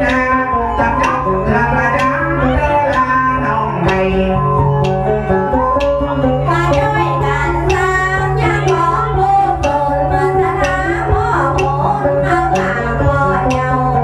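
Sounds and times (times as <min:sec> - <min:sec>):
bowed fiddle melody: 0:00.0 - 0:14.0
plucked lute: 0:00.0 - 0:14.0.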